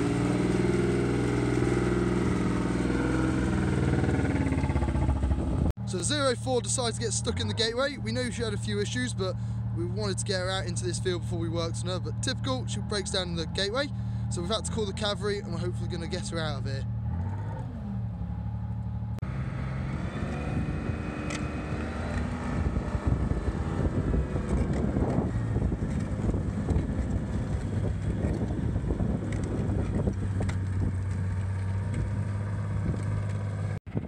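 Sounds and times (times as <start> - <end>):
armoured vehicle engine running: 0.0 - 34.0.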